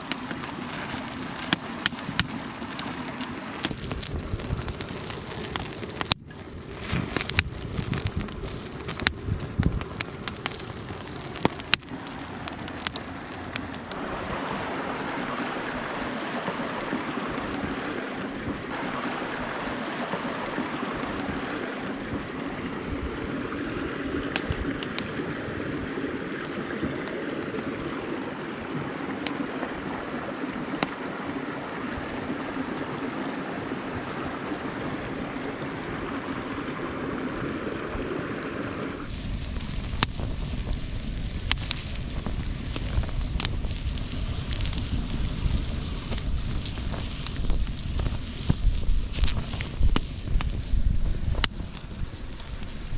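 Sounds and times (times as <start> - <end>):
mountain stream rushing: 0.0 - 7.4, 9.8 - 47.6
sharp crackles and pops: 0.0 - 14.1, 15.0 - 31.1, 36.2 - 52.9.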